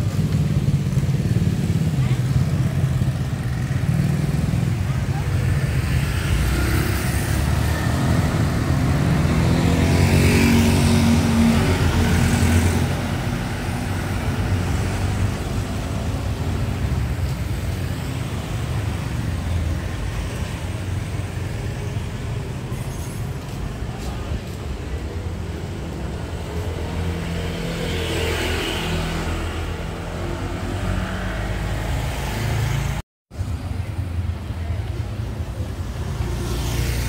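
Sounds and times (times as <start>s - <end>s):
traffic hum: 0.0s - 37.0s.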